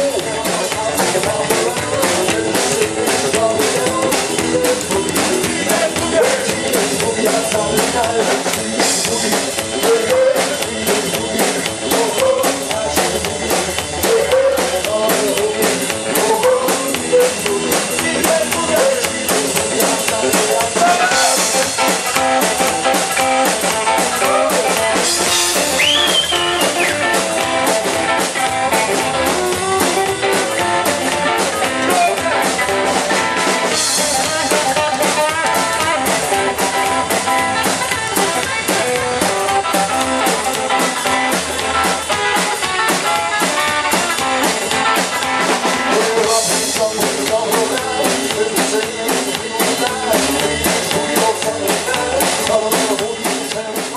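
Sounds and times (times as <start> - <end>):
drum kit beat: 0.0 - 53.9
electric guitar: 0.0 - 53.9
upright double bass: 0.0 - 53.9.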